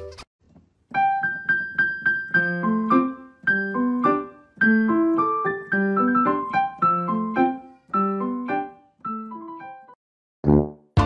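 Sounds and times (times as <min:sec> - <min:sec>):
piano music: 0:00.9 - 0:10.0.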